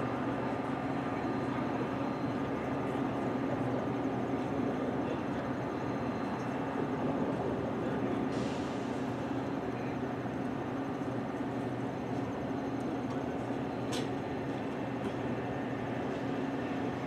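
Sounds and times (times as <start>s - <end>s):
train mechanical hum: 0.0s - 17.0s.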